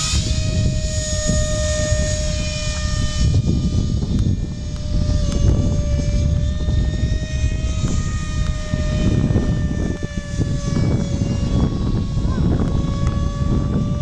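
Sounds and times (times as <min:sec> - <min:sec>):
model airplane motor droning: 0:00.0 - 0:14.0
wind rumbling on microphone: 0:00.0 - 0:14.0.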